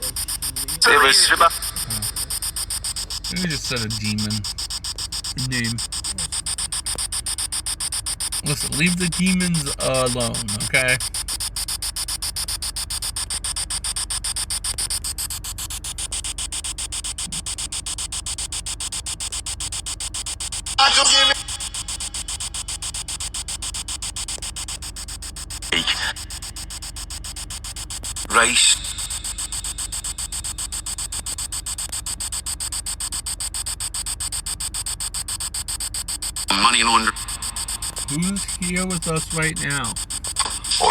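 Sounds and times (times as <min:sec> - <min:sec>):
radio static pulsing: 0:00.0 - 0:40.9.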